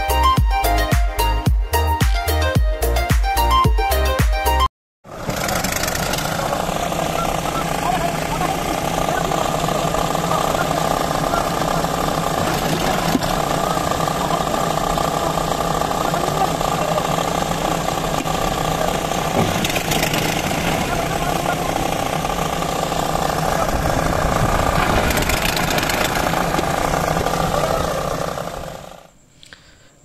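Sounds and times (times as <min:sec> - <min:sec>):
engine rattling drone: 0:05.0 - 0:29.2.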